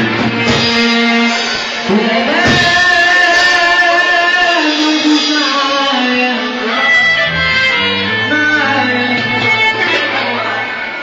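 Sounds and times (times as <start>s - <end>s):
man singing: 0.0s - 9.9s
band playing: 0.0s - 11.0s.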